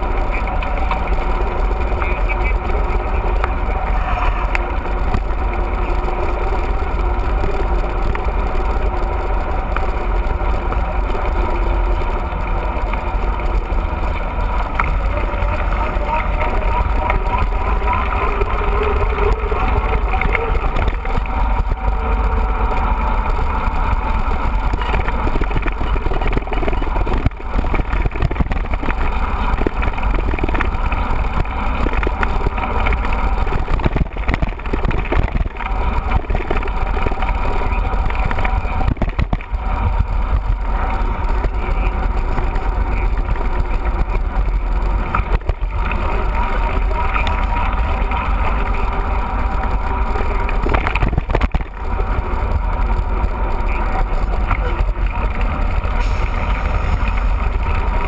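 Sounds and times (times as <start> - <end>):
wind buffeting microphone: 4.3 - 58.0.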